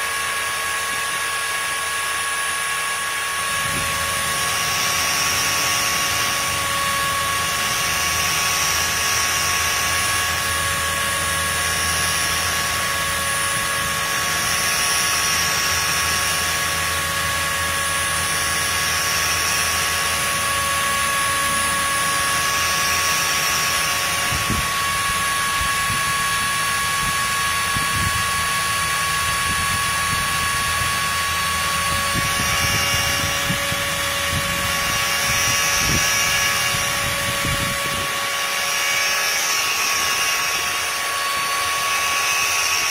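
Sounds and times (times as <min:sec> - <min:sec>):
grinding spindle whine: 0:00.0 - 0:42.9
grinding wheel hiss: 0:00.0 - 0:42.9.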